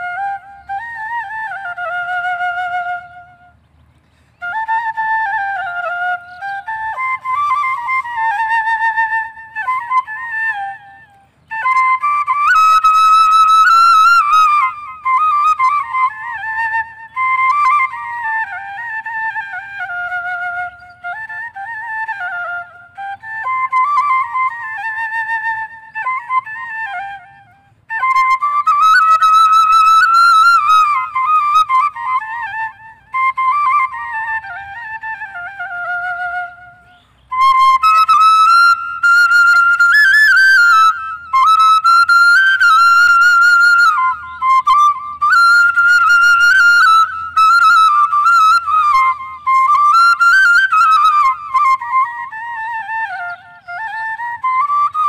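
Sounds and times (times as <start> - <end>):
bamboo flute melody: 0.0 - 55.0.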